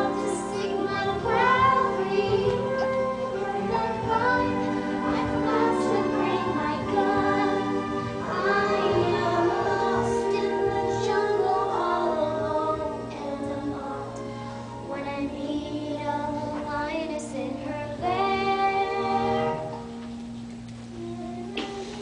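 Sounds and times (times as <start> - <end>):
girl singing: 0.0 - 19.9, 20.9 - 22.0
musical accompaniment chords: 0.0 - 22.0.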